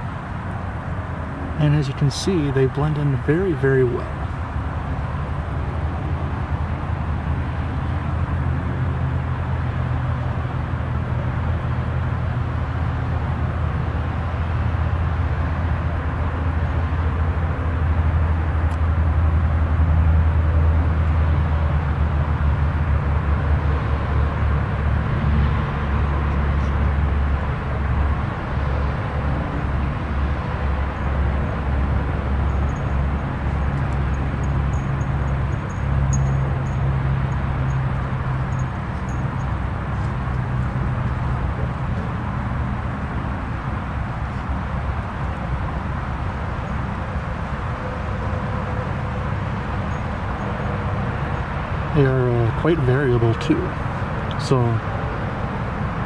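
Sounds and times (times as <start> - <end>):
low rumble with hiss: 0.0 - 56.0.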